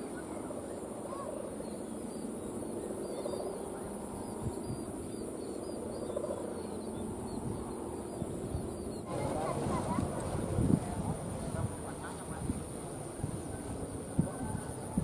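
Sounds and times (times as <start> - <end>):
constant high hiss: 0.0 - 15.0
distant voices: 0.0 - 15.0
low rumble of wind: 0.0 - 15.0.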